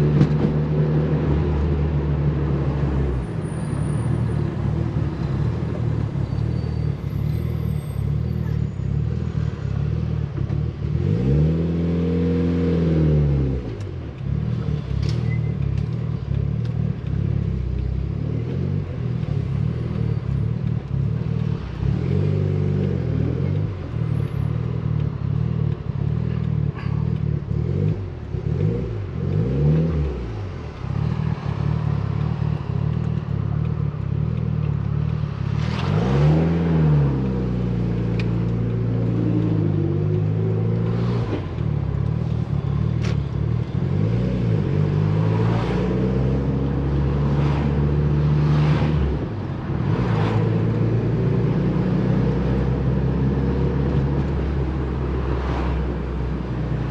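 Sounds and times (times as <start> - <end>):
car engine revving while driving: 0.0 - 3.3, 9.0 - 56.9.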